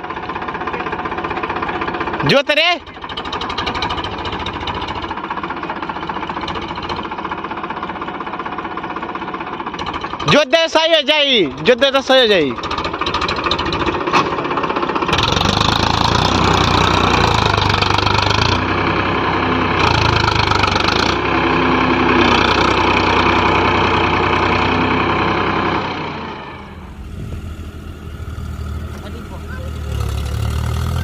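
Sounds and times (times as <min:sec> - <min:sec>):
tractor diesel engine: 0:00.0 - 0:31.0.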